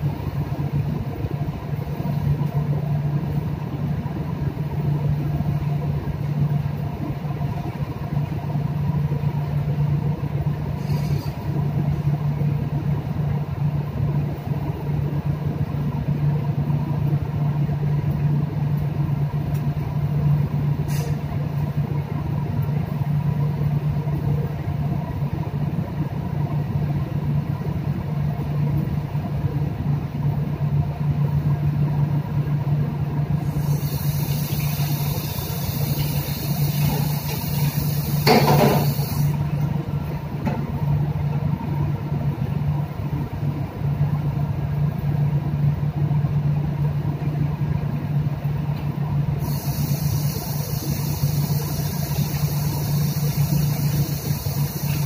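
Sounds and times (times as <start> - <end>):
low ship machinery hum: 0.0 - 55.0.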